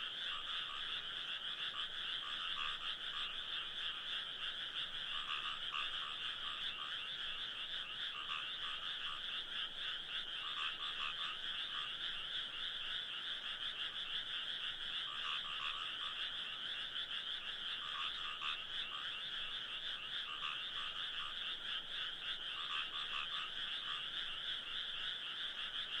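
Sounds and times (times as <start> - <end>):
chorus of frogs calling: 0.0 - 26.0.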